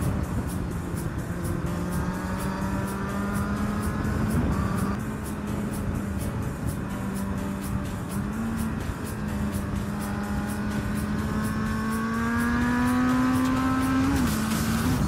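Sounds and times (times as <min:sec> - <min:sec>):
motorcycle engine accelerating: 0:00.0 - 0:15.0
wind noise: 0:00.0 - 0:15.0.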